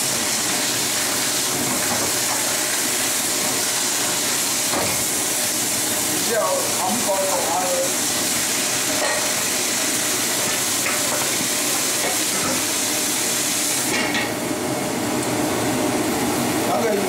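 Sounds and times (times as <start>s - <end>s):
vegetables sizzling in a wok: 0.0s - 14.7s.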